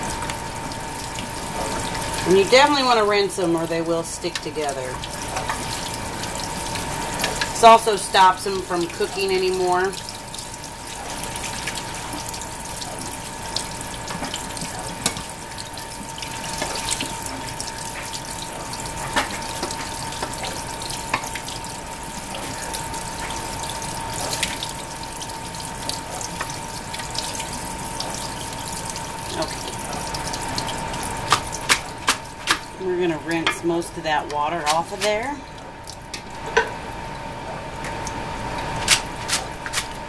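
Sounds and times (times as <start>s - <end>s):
tap water running into a colander: 0.0s - 40.0s.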